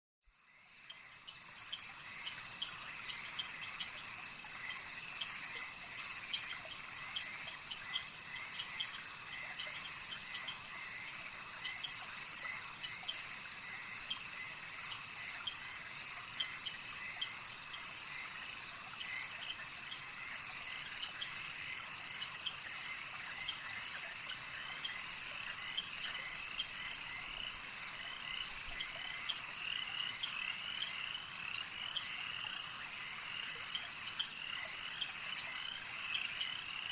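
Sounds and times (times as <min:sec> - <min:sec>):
frogs chirping: 0:00.3 - 0:36.9.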